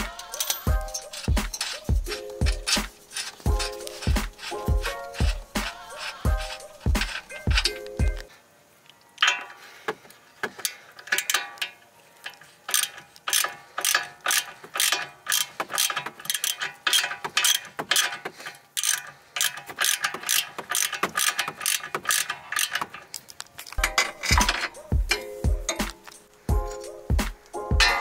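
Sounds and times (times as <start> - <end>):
ratchet wrench clicking: 0.0 - 8.3, 10.5 - 28.0.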